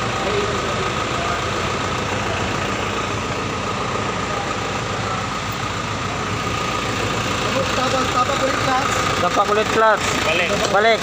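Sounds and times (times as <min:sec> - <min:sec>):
fire truck engine idling: 0:00.0 - 0:11.0.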